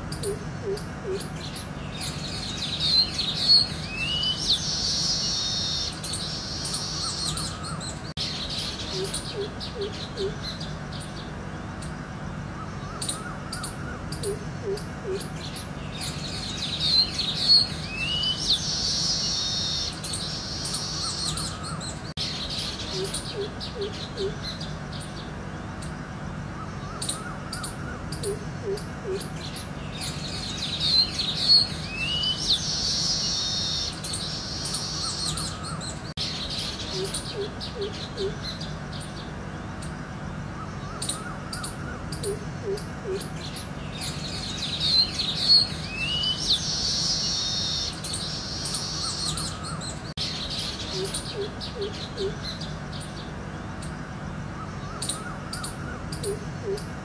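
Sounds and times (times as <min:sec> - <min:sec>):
songbirds chirping and twittering: 0:00.0 - 0:57.0
steady low hum: 0:00.0 - 0:57.0.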